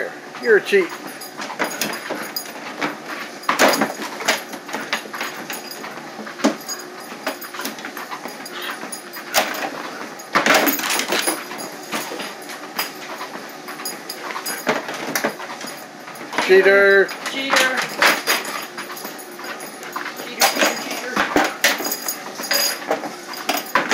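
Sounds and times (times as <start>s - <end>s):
treadmill running: 0.0s - 23.9s
footfalls on treadmill: 0.9s - 23.9s.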